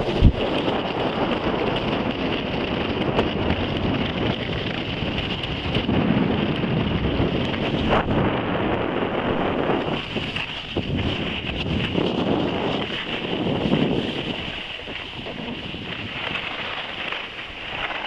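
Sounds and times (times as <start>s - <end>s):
skis scraping on snow: 0.0s - 18.0s
wind buffeting microphone: 0.0s - 18.0s.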